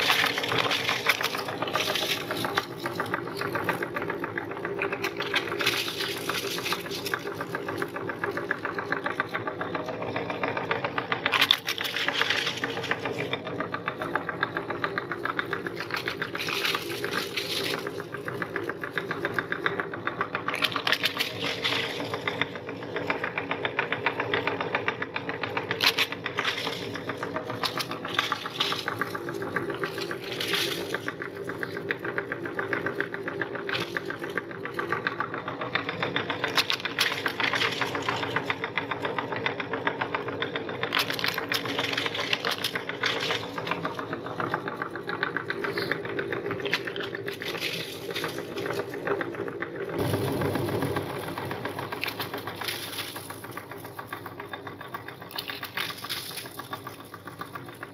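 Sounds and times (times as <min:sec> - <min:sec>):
crackling and crunching: 0:00.0 - 0:23.7, 0:25.4 - 0:39.5, 0:40.6 - 0:57.9
meat grinder motor running: 0:00.0 - 0:57.9.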